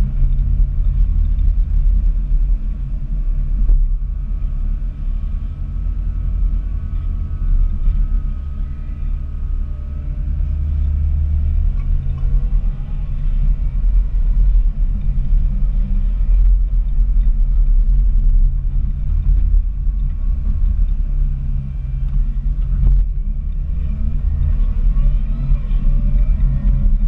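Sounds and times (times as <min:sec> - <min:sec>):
rising whine: 0:00.0 - 0:27.0
wheel loader diesel engine rumble: 0:00.0 - 0:27.0.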